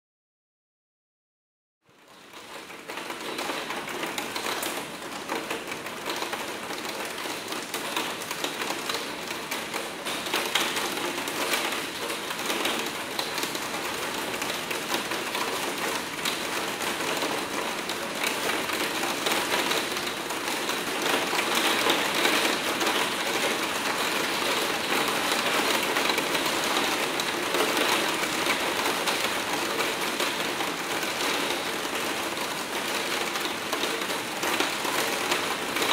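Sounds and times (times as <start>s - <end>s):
hard rain on a window: 1.9s - 35.9s.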